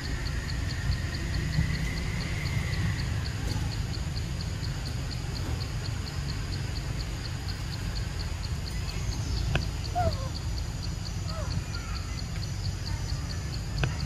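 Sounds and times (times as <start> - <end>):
faint high ticking: 0.0 - 14.0.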